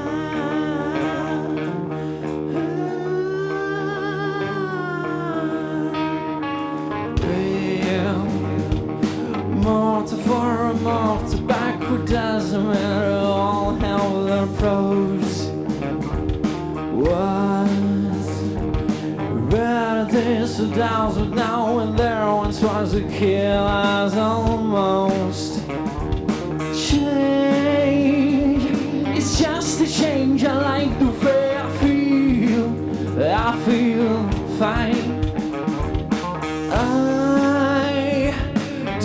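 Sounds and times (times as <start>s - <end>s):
man singing into microphone: 0.0s - 15.7s, 16.9s - 25.8s, 26.6s - 35.4s, 36.7s - 39.0s
live funk rock band: 0.0s - 39.0s.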